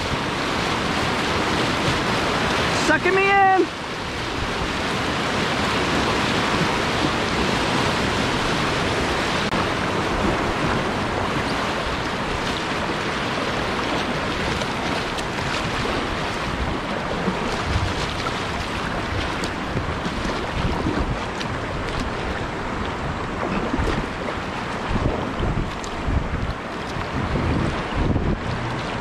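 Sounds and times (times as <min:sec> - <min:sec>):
whitewater rushing: 0:00.0 - 0:29.0.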